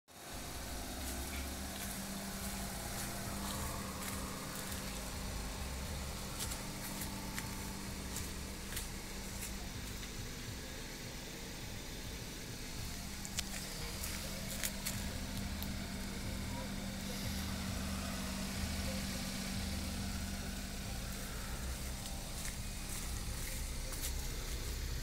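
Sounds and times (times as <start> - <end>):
car engine idling: 0.1 - 25.0.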